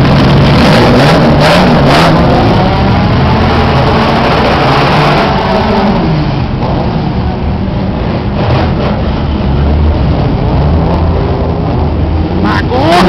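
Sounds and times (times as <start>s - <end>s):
drag car engines idling and revving: 0.0s - 13.0s.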